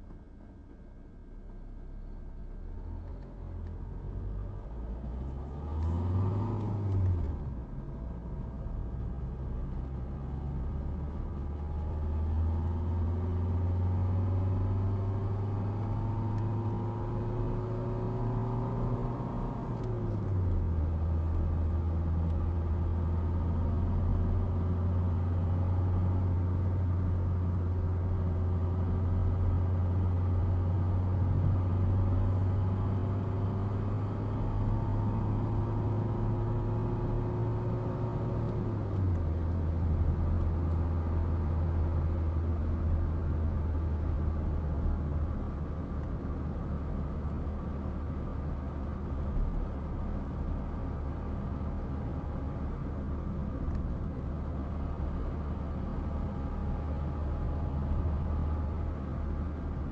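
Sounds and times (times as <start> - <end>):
road noise inside car: 0.0 - 59.9
car engine accelerating: 2.4 - 59.9.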